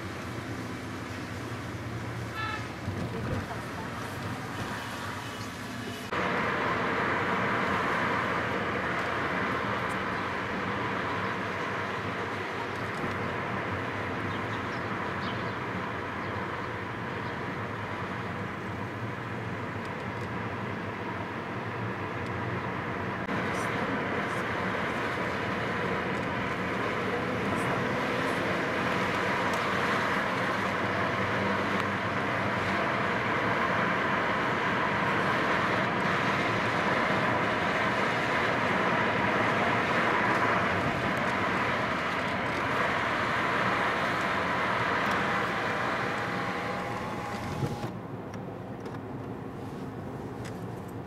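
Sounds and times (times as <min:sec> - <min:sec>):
car road noise from inside: 0:00.0 - 0:51.0.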